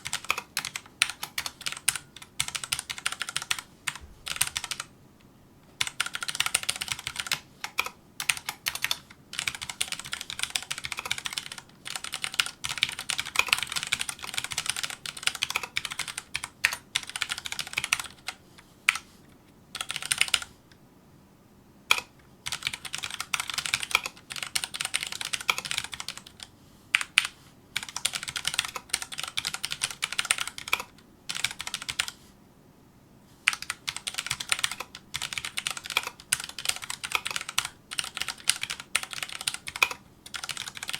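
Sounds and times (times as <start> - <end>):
mechanical keyboard typing: 0.0 - 4.9, 5.8 - 19.1, 19.8 - 20.5, 21.9 - 32.2, 33.5 - 40.9.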